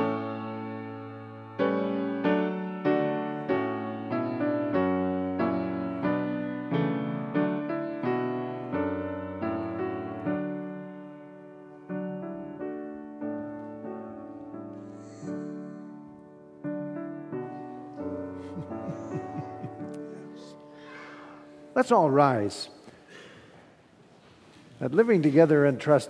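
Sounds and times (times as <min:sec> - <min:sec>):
piano playing slow hymn: 0:00.0 - 0:22.4.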